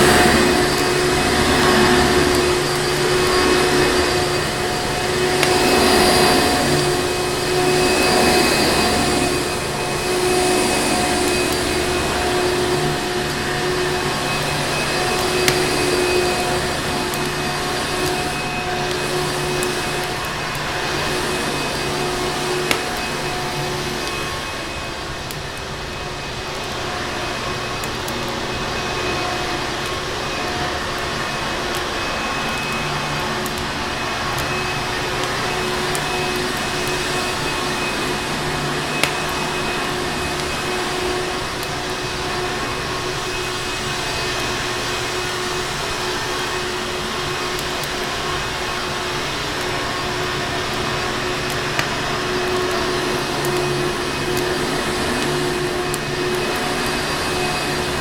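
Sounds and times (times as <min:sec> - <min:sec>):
vacuum cleaner running: 0:00.0 - 0:58.0
wood fire crackling and popping: 0:00.0 - 0:58.0.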